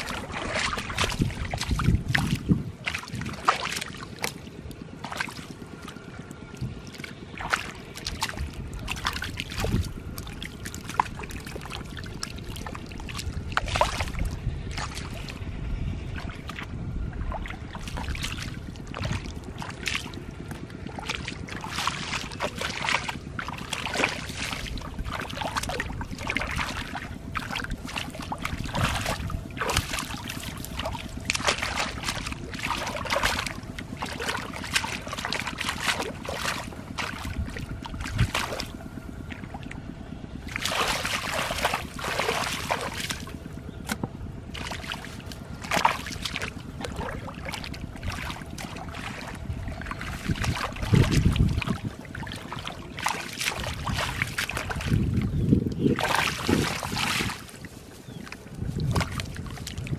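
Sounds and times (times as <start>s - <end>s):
splashing in shallow muddy water: 0.0s - 59.9s
steady low rumble: 0.0s - 59.9s.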